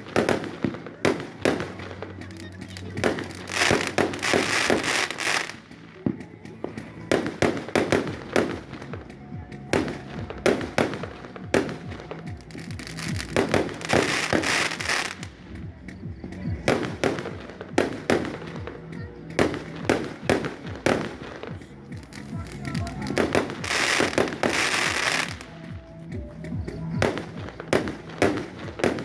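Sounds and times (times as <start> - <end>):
fireworks bangs: 0.0 - 15.5, 16.2 - 26.0
hissing crackle: 0.0 - 15.5, 16.8 - 25.6.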